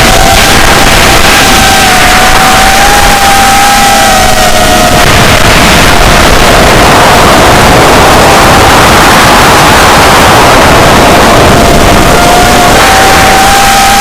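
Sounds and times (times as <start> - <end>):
distorted wind rush: 0.0 - 14.0.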